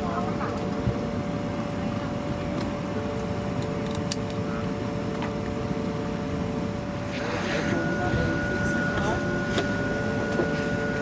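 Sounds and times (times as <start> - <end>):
aircraft cabin air system drone: 0.0 - 11.0.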